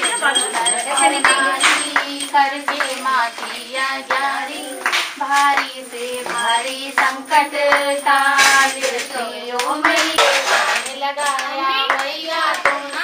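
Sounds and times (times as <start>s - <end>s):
hand claps: 0.0s - 13.0s
women and children singing: 0.0s - 13.0s.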